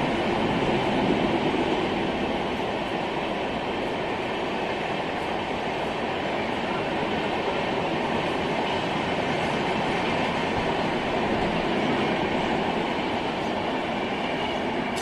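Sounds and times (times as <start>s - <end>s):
passenger train rumbling and rattling: 0.0s - 15.0s.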